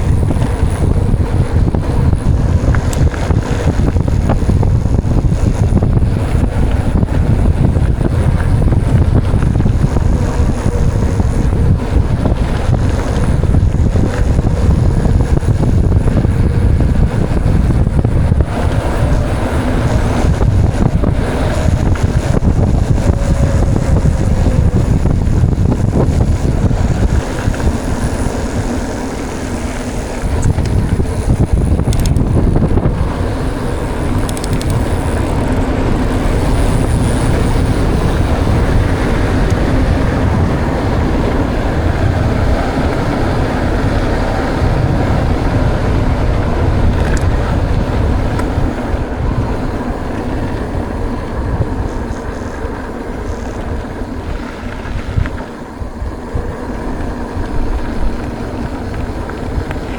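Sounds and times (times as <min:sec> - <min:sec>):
bike tyres rolling on trail: 0:00.0 - 0:59.9
wind buffeting microphone: 0:00.0 - 0:59.9.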